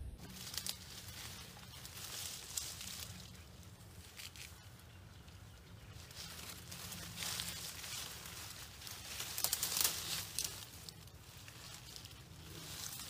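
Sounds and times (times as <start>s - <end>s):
leafy branches rustling: 0.0s - 13.0s
steady low rumble: 0.0s - 13.0s.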